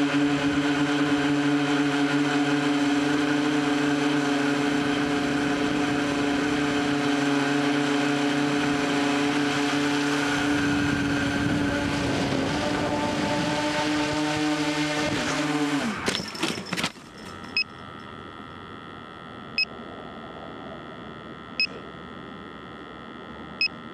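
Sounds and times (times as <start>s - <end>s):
drone motors whining: 0.0s - 23.9s.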